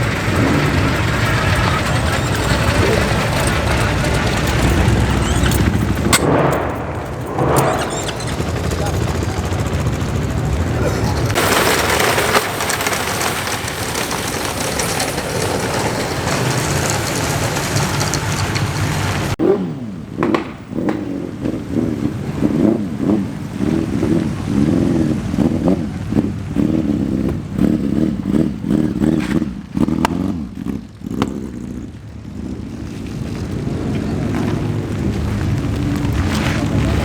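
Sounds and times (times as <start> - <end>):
car engine throttle blips: 0.0 - 37.0.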